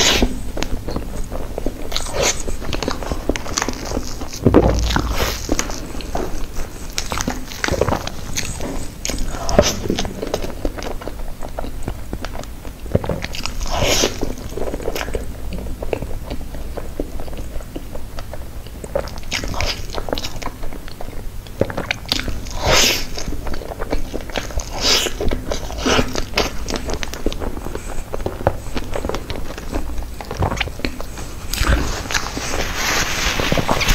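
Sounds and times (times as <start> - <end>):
person chewing with wet smacks: 0.0 - 32.8.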